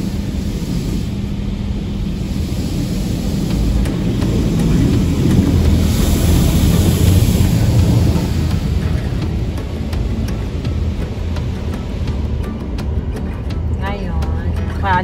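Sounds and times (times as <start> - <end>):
car wash water rumble and hiss: 0.0 - 15.0.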